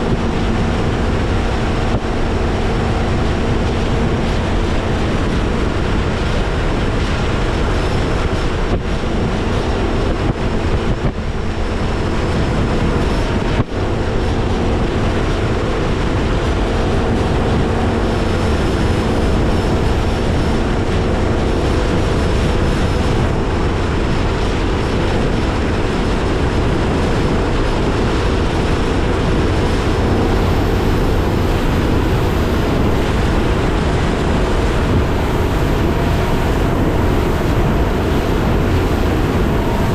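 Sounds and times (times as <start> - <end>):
outboard motor running: 0.0 - 39.9
waves washing: 0.0 - 39.9
wind rushing over microphone: 0.0 - 39.9.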